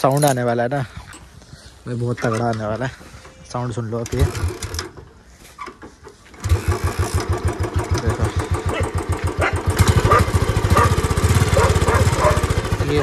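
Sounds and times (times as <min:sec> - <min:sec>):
motorcycle engine starting and running: 0:02.0 - 0:13.0.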